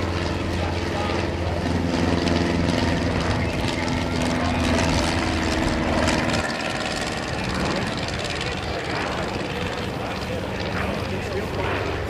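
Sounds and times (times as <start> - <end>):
propeller plane droning past: 0.0 - 12.0.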